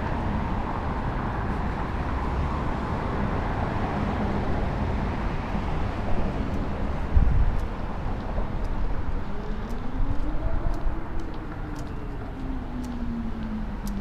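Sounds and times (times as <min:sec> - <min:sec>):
streetcar rumble: 0:00.0 - 0:14.0.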